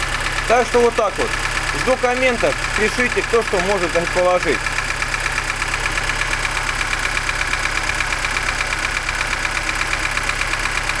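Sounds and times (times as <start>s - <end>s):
car engine idling: 0.0s - 11.0s
rapid engine knocking: 0.0s - 11.0s.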